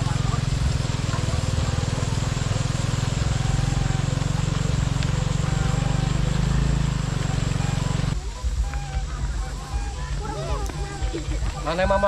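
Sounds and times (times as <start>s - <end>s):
faint distant voices: 0.0s - 12.0s
motor running with pulsing drone: 0.0s - 12.0s.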